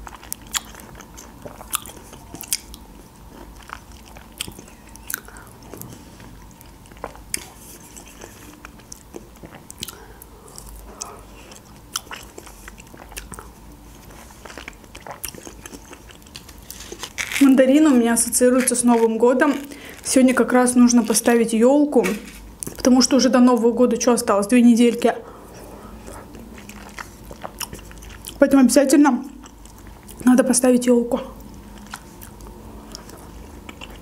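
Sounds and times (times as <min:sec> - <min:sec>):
chewing with wet smacks: 0:00.0 - 0:21.3, 0:25.5 - 0:28.6, 0:29.2 - 0:30.2, 0:31.4 - 0:34.0
crunchy chewing clicks: 0:00.0 - 0:21.3, 0:26.0 - 0:28.5, 0:29.3 - 0:30.3, 0:31.4 - 0:34.0.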